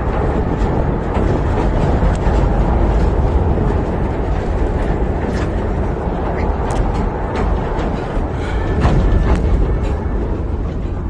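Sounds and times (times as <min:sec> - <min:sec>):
miniature train rumbling on track: 0:00.0 - 0:11.0.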